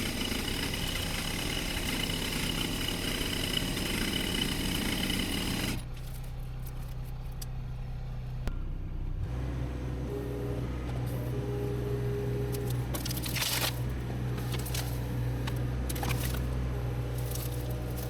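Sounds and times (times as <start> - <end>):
heavy machinery engine running: 0.0 - 7.1, 9.0 - 18.0
low engine hum: 0.0 - 18.0.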